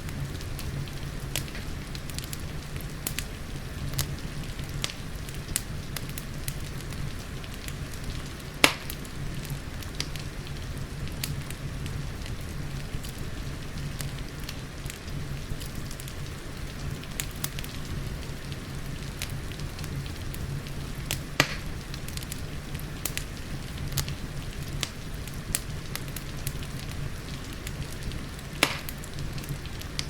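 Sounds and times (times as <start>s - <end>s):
rain hissing: 0.0s - 30.0s
wood fire crackling and popping: 0.0s - 30.0s.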